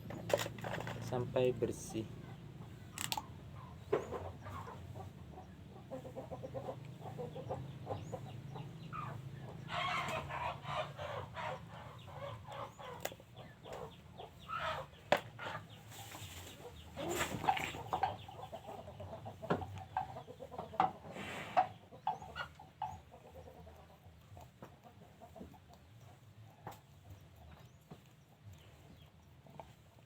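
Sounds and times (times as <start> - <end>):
chicken clucking: 1.9 - 30.0.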